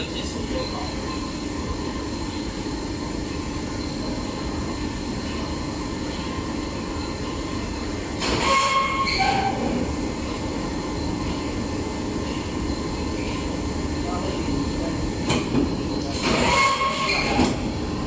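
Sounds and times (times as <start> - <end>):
welding press mechanical hum: 0.0 - 18.0.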